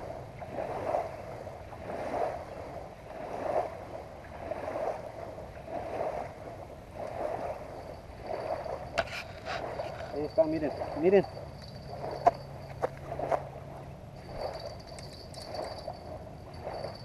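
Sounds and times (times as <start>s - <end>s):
small waves lapping on sand: 0.0s - 17.0s.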